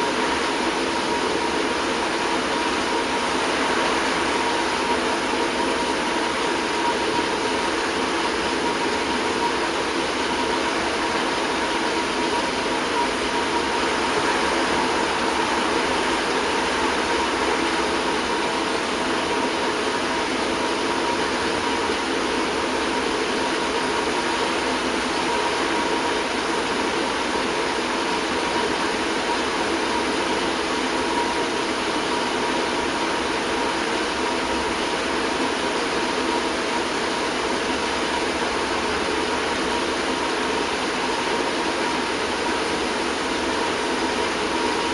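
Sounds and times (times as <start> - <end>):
mechanical hum: 0.0 - 44.9.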